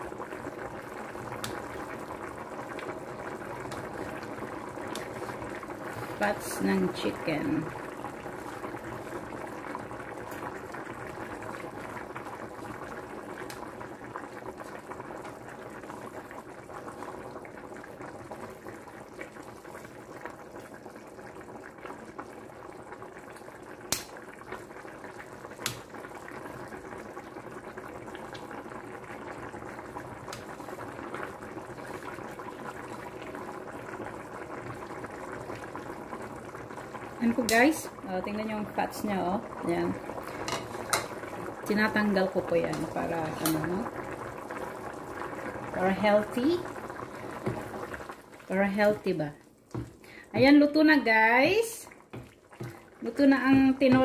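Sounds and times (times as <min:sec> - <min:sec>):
soup bubbling in a pot: 0:00.0 - 0:54.0.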